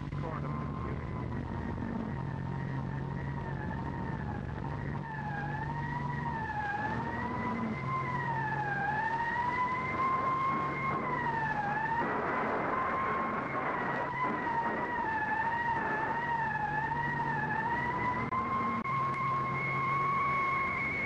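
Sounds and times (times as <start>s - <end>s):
low hum: 0.0s - 21.0s
noisy rush: 0.0s - 21.0s
siren wailing: 0.0s - 21.0s.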